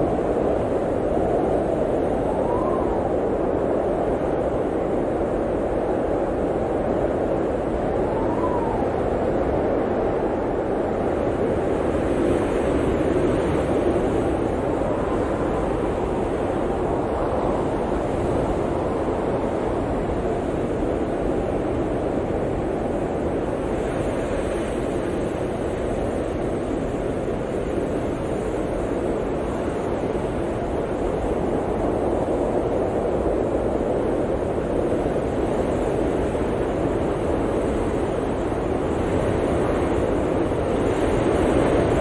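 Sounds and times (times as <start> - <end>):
blizzard wind rushing: 0.0 - 42.0.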